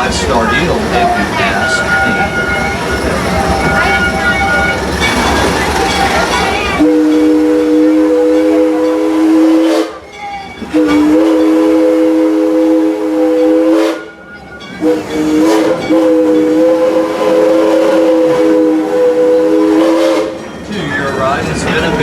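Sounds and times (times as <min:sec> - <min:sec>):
steam locomotive chime whistle: 0:00.0 - 0:22.0.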